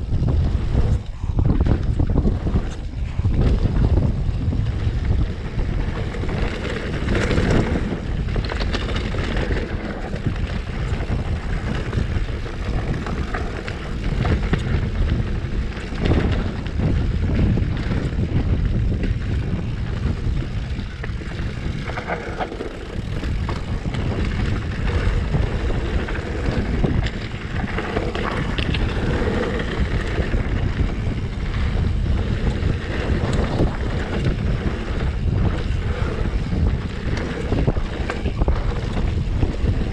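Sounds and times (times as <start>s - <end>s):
bike knocks and rattles: 0.0s - 39.9s
tyres on loose dirt: 0.0s - 39.9s
wind buffeting microphone: 0.0s - 39.9s.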